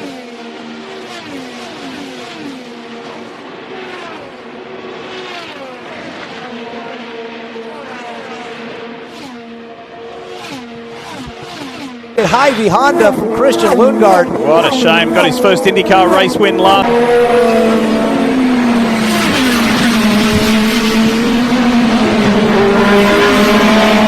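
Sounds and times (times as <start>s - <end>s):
race cars passing at speed: 0.0s - 24.0s.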